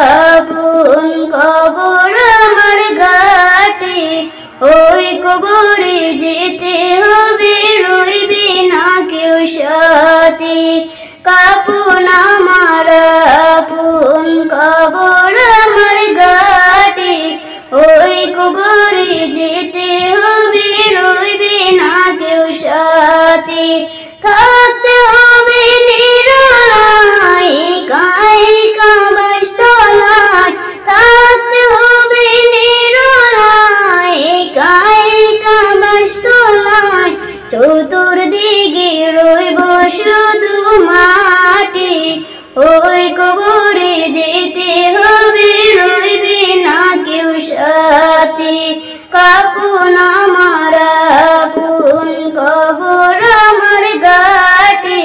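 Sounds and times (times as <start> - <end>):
woman singing into a microphone: 0.0 - 55.0.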